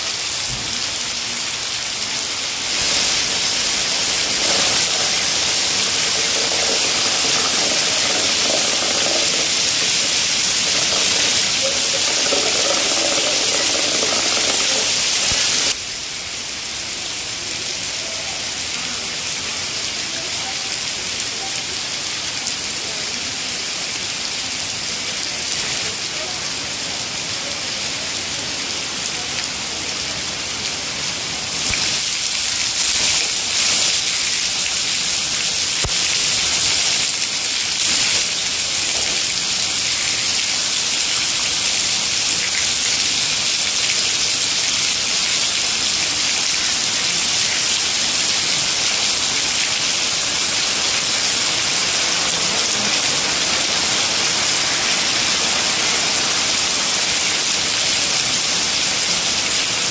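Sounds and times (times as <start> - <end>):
rain splashing on a puddle: 0.0 - 59.9.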